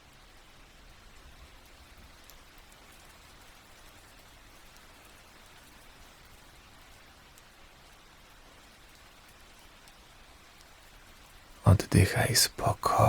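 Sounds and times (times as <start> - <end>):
soft rainfall: 0.0 - 13.0.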